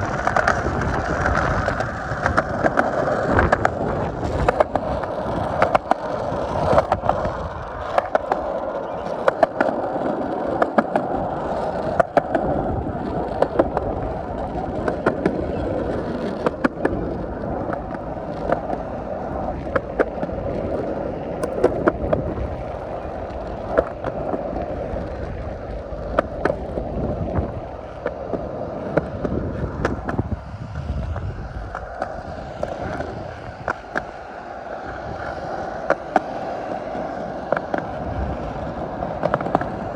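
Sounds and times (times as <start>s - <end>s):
skateboard wheels rolling on pavement: 0.0s - 39.9s.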